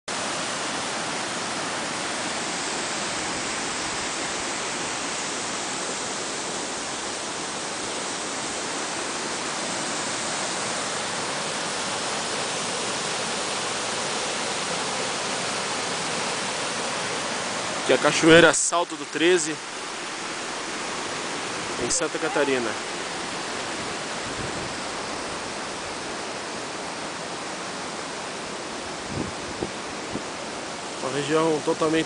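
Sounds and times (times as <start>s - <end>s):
waterfall roaring: 0.1s - 32.0s.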